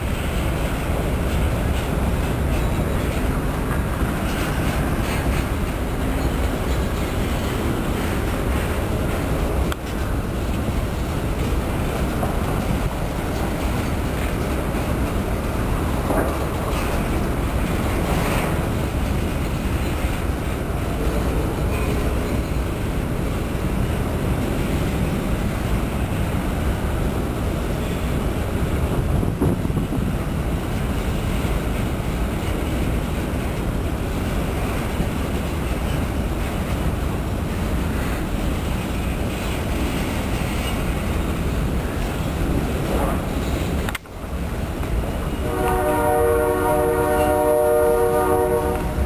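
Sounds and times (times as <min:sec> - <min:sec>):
freight train wheels rolling: 0:00.0 - 0:49.0.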